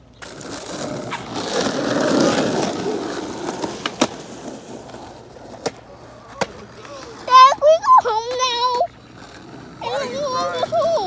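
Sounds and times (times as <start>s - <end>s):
skateboard wheels rolling on asphalt: 0.0s - 11.0s
sharp skateboard clacks: 0.1s - 11.0s.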